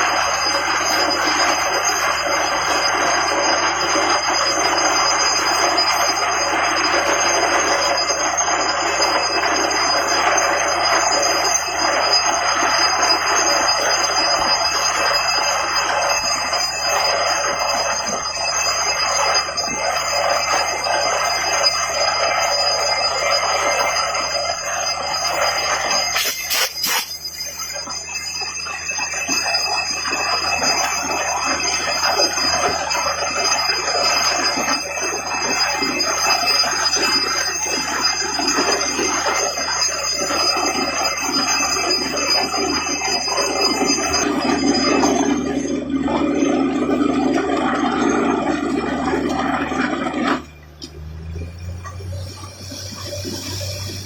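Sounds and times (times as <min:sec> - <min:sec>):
drilling rig metallic clatter: 0:00.0 - 0:54.0
high whine: 0:00.0 - 0:54.0.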